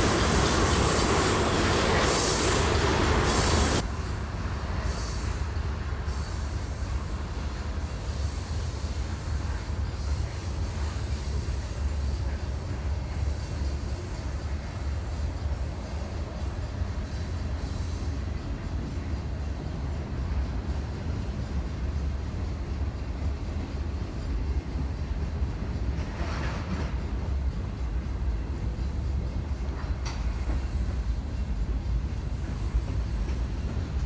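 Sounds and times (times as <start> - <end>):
freight train wheels on rails: 0.0 - 34.0
low train rumble: 0.0 - 34.0.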